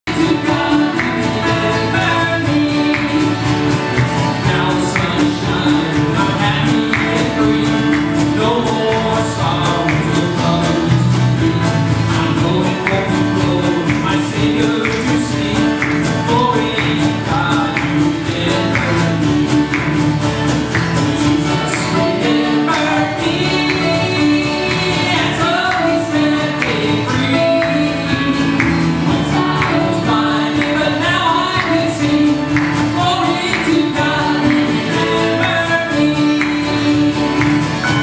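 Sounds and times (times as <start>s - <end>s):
acoustic guitar: 0.0s - 38.0s
electric bass: 0.0s - 38.0s
keyboard: 0.0s - 38.0s.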